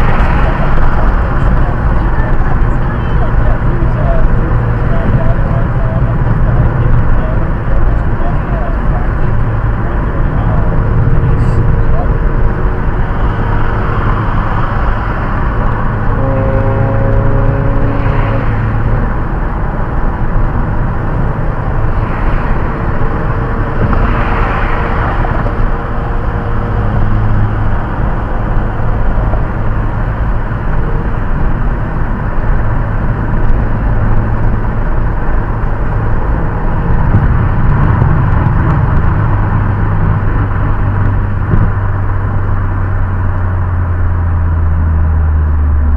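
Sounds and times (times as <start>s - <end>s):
road and engine drone: 0.0s - 45.9s.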